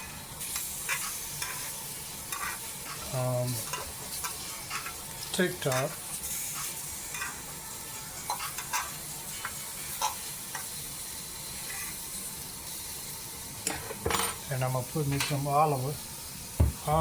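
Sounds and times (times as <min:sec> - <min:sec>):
shrimp sizzling in a frying pan: 0:00.0 - 0:17.0.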